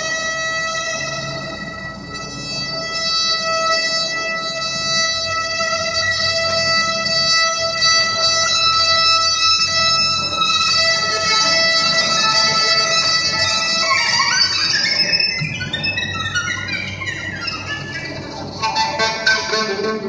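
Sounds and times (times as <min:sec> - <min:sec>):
bowed violin: 0:00.0 - 0:20.0
steady high tone: 0:00.0 - 0:20.0.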